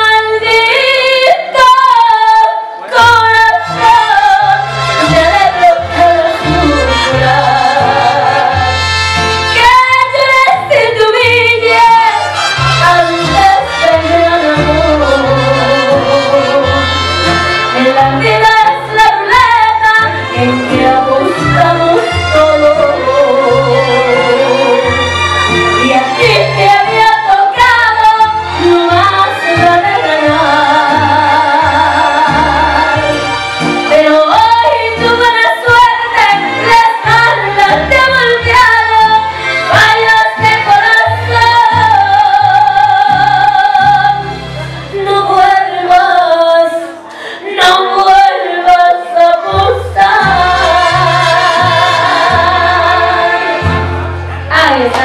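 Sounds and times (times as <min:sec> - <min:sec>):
woman singing through microphone: 0:00.0 - 0:08.8, 0:09.5 - 0:17.0, 0:17.7 - 0:33.2, 0:33.9 - 0:44.3, 0:44.9 - 0:53.8, 0:54.5 - 0:55.0
amplified accompaniment with bass: 0:00.0 - 0:55.0.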